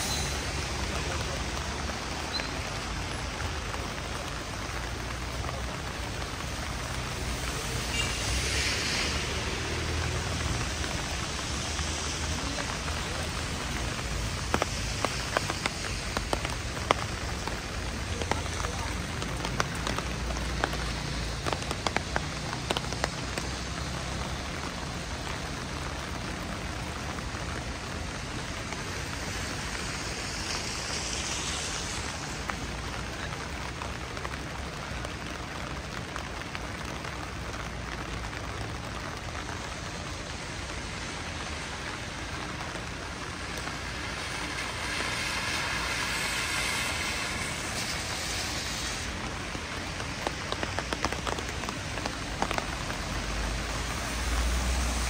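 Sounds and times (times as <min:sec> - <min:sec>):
rain falling on street: 0:00.0 - 0:55.0.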